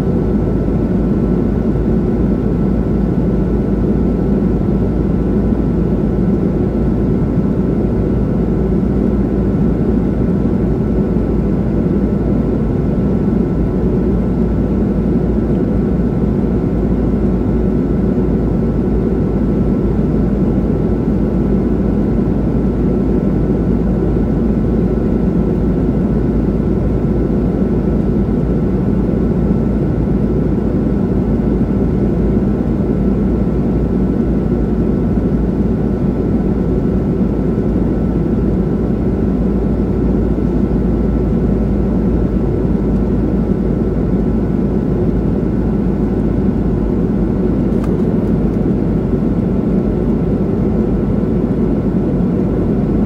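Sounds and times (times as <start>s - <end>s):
airflow and jet engine noise: 0.0s - 53.0s
faint steady whine: 0.0s - 53.0s.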